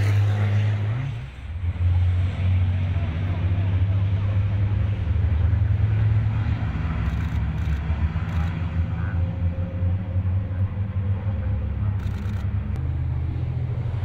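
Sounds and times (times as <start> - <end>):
diesel truck engines rumbling: 0.0 - 14.0.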